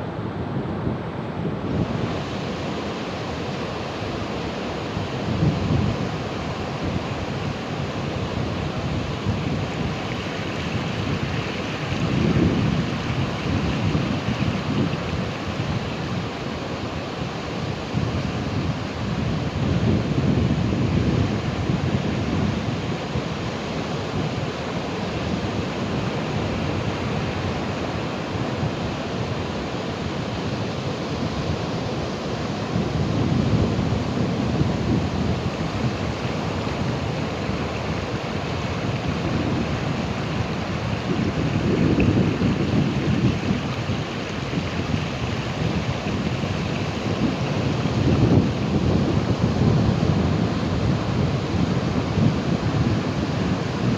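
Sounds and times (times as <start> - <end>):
sea waves washing on shore: 0.0 - 53.9.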